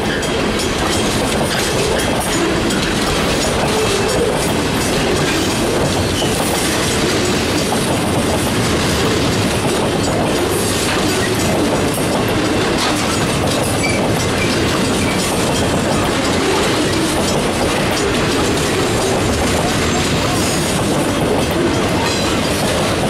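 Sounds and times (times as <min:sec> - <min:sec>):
train wheels rolling on rail: 0:00.0 - 0:23.0.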